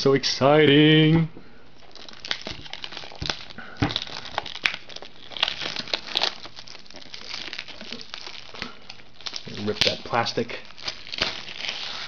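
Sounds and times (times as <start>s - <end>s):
plastic shrink-wrap crinkling: 1.8s - 12.0s.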